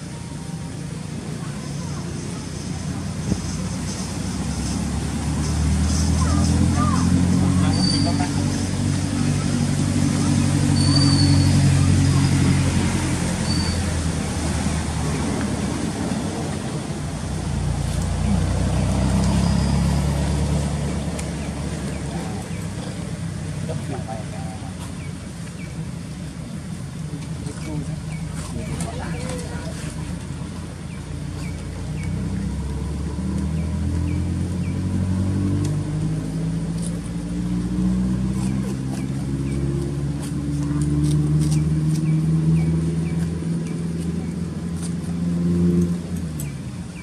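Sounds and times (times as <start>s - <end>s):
road noise: 0.0s - 47.0s
vehicle engine droning: 0.0s - 47.0s.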